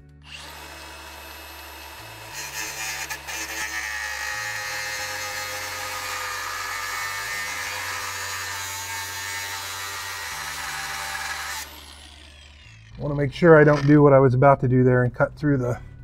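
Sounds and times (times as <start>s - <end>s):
angle grinder whining: 0.0s - 14.0s
grinder cutting metal bolt: 0.2s - 14.0s.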